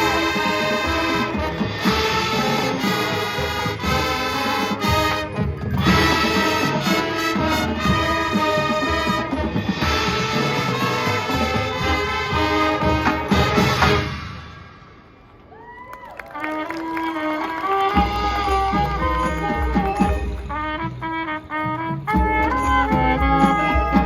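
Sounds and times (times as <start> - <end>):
marching band playing: 0.0 - 15.2, 16.3 - 24.0.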